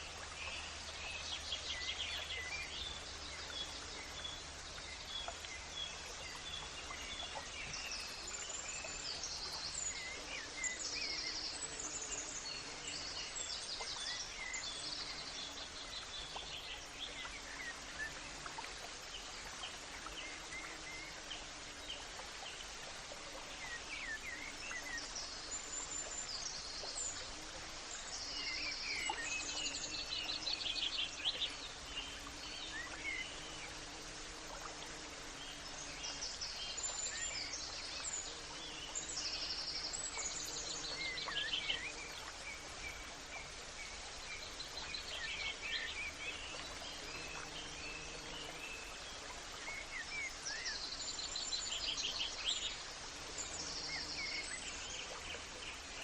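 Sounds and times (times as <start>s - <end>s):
outdoor ambience hiss: 0.0s - 56.0s.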